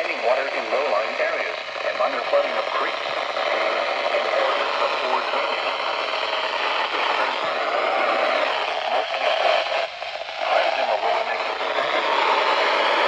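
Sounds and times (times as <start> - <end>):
radio hiss and static: 0.0 - 13.0.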